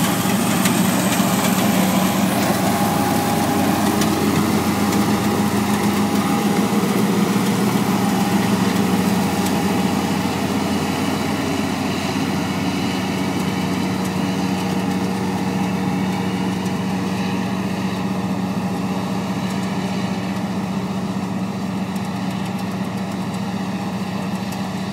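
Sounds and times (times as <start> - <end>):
combine harvester engine drone: 0.0 - 24.9.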